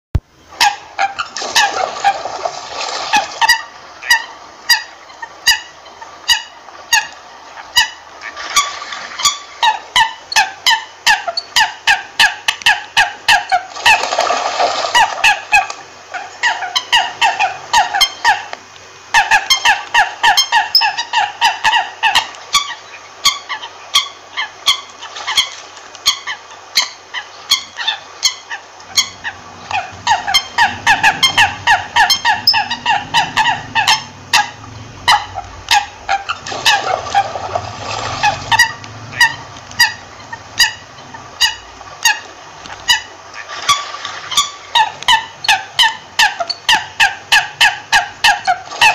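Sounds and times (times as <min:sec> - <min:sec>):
coots clucking calls: 0:00.6 - 0:48.9.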